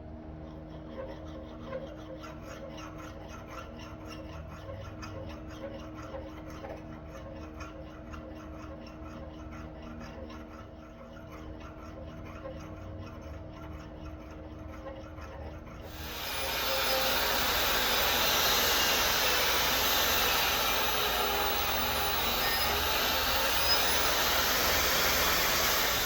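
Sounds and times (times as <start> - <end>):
hand filing on metal: 0.4 - 26.0.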